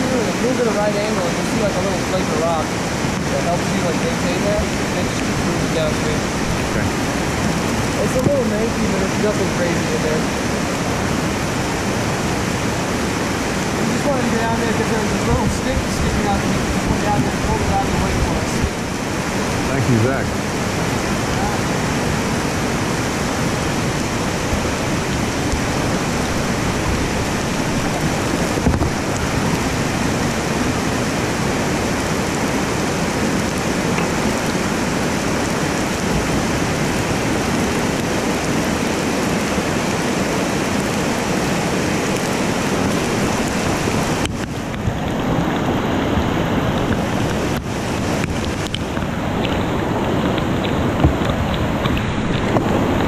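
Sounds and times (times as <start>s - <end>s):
whitewater rushing over rocks: 0.0s - 53.0s.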